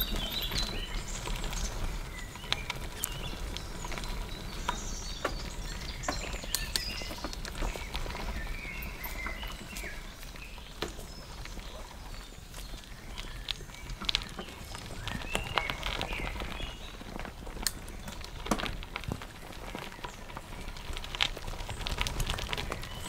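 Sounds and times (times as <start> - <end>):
bicycle tyres on gravel: 0.0 - 23.0
bike rattling over bumps: 0.0 - 23.0.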